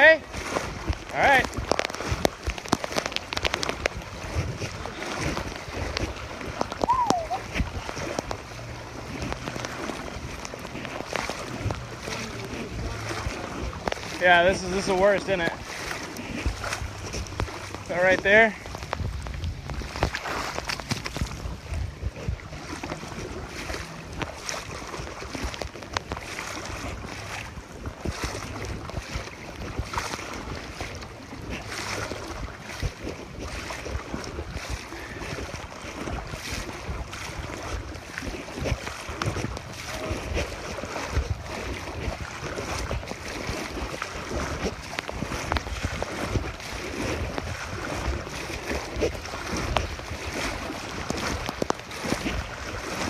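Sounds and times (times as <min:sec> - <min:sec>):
floodwater rushing and sloshing: 0:00.0 - 0:53.0
wind buffeting microphone: 0:00.0 - 0:53.0.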